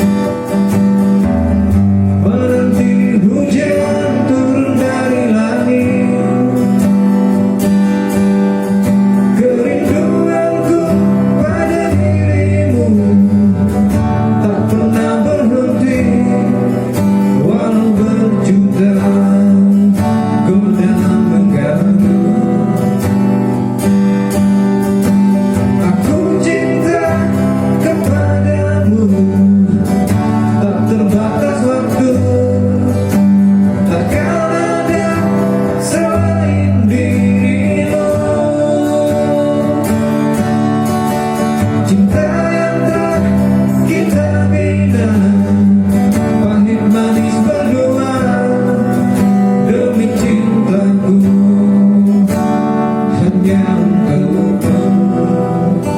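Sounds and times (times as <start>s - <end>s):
strummed acoustic guitar: 0.0s - 55.9s
person singing: 2.2s - 7.1s, 9.3s - 23.1s, 25.8s - 40.4s, 41.8s - 52.5s, 53.1s - 55.9s.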